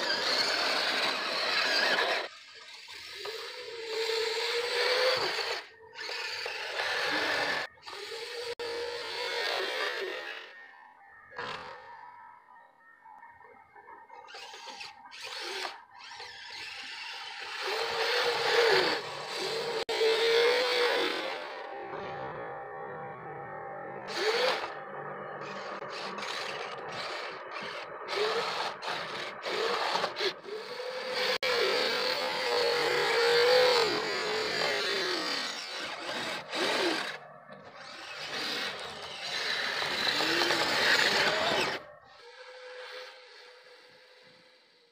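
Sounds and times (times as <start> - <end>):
electric motors whining: 0.0 - 12.0, 13.8 - 44.9
whine wavering in pitch: 0.0 - 44.9.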